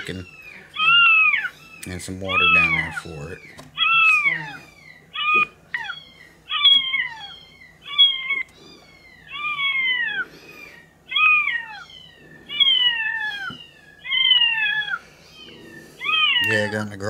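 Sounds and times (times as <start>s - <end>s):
kitten meowing: 0.7s - 16.9s.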